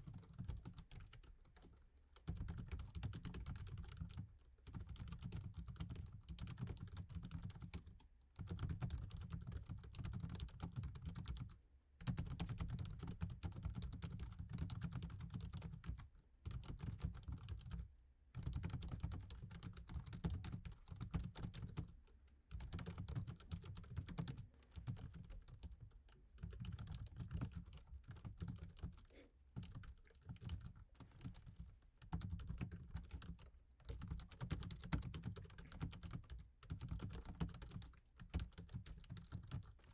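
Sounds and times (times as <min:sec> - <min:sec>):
typing on laptop keyboard: 0:00.0 - 0:39.9.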